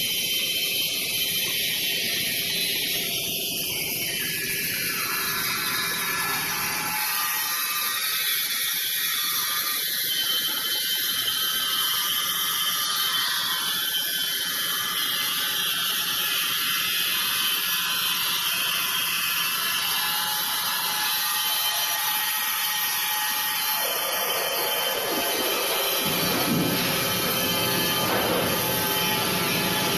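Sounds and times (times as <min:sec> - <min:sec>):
band saw whirring and hissing: 0:00.0 - 0:29.9.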